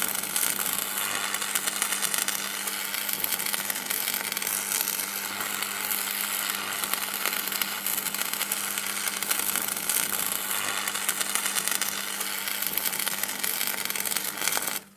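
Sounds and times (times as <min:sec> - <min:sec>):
electrical crackling: 0:00.0 - 0:14.8.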